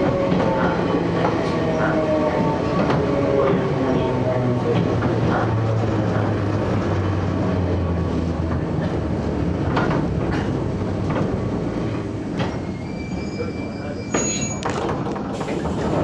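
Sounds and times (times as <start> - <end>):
train motors humming: 0.0 - 12.9, 14.7 - 16.0.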